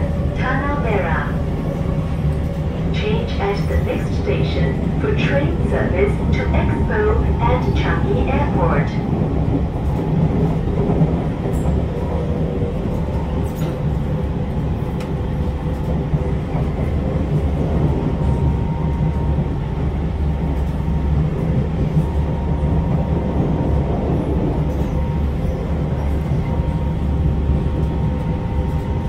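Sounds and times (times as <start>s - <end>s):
train carriage interior rumble: 0.0s - 29.0s.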